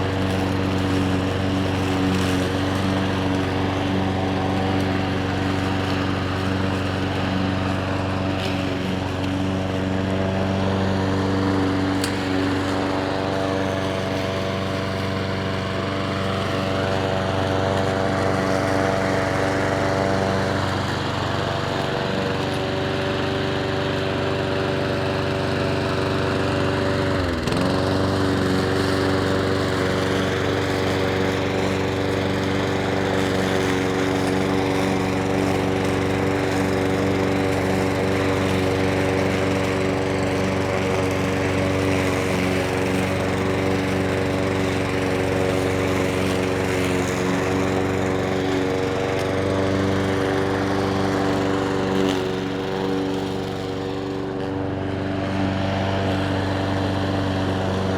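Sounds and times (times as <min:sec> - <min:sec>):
lawn mower engine running: 0:00.0 - 0:57.9.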